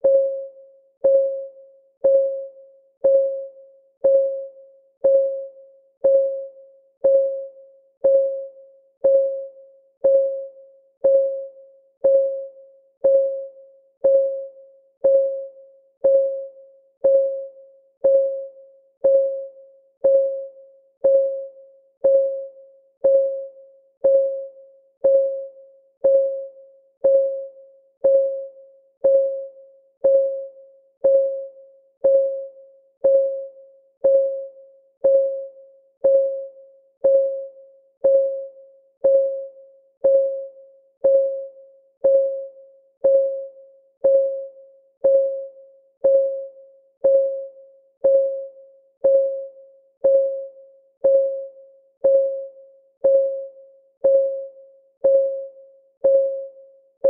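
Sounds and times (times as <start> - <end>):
timer ticking: 1.0 - 56.6.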